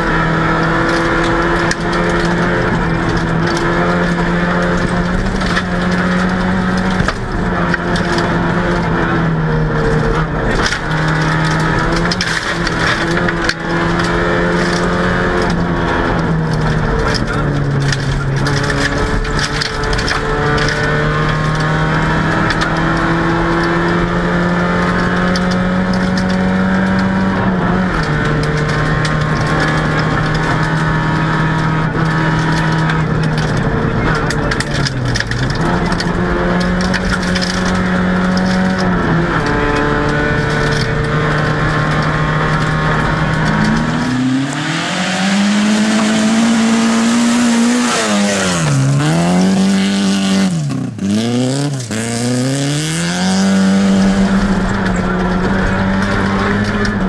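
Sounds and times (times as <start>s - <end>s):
car approaching: 0.0s - 57.0s
car engine at high revs: 0.0s - 57.0s.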